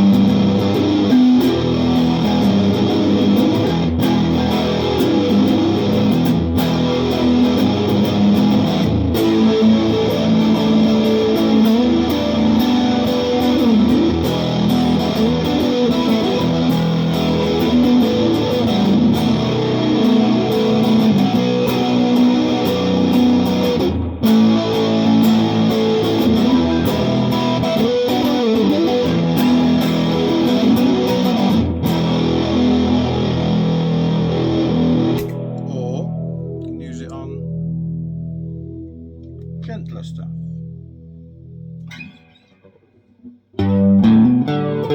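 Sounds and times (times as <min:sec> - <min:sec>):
electric guitar playing: 0:00.0 - 0:44.9.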